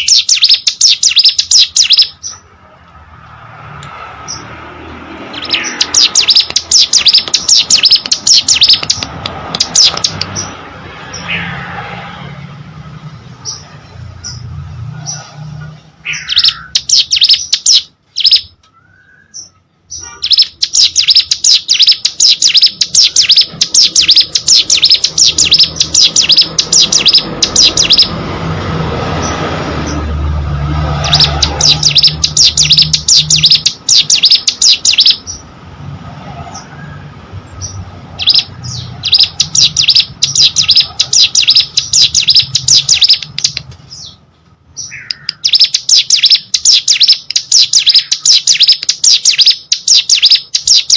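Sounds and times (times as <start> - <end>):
bird singing high-pitched notes: 0.0 - 2.5, 5.2 - 11.6, 13.4 - 28.2, 31.0 - 35.4, 37.6 - 44.2, 44.8 - 50.9.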